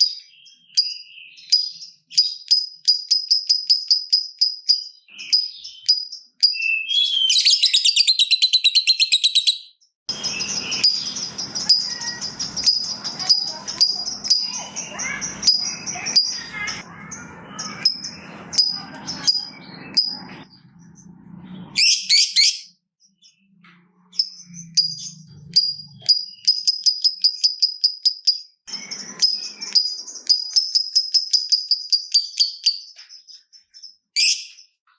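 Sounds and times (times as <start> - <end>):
birds ticking calls: 0.0 - 21.2, 23.0 - 34.9
birds chattering trill: 0.0 - 34.8
birds chirping: 0.0 - 34.9.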